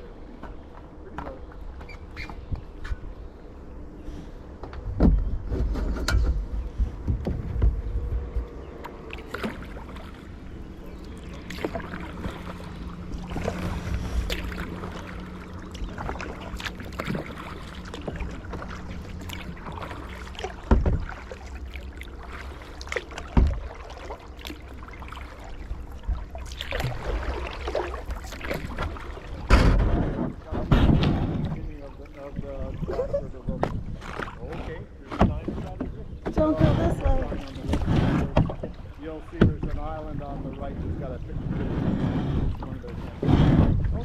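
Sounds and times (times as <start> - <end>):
paddles splashing in water: 4.0 - 44.0.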